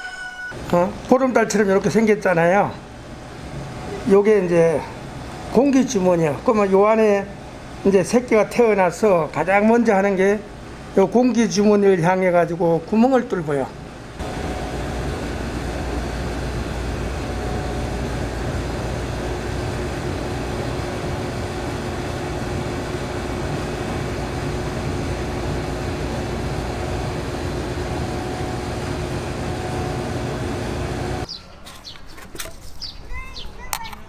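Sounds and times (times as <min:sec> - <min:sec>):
incubator fans humming: 0:00.0 - 0:32.0.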